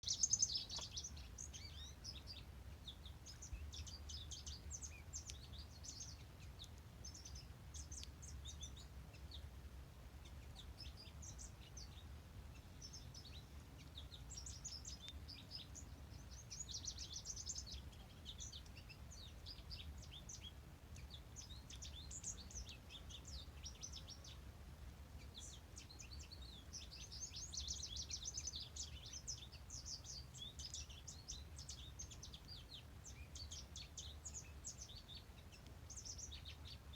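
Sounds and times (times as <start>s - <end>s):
faint low rumble: 0.0s - 36.9s
songbirds chirping chorus: 0.0s - 36.9s.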